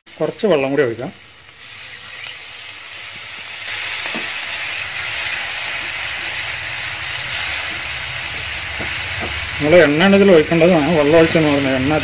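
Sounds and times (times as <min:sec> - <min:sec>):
food sizzling in a pan: 0:00.1 - 0:12.0.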